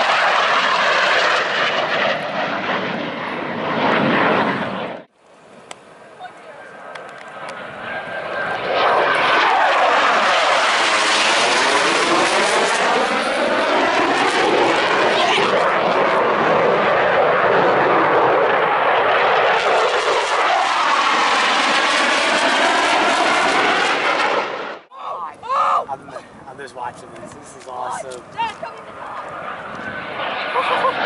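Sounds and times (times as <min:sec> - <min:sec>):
jet engines roaring past: 0:00.0 - 0:31.0.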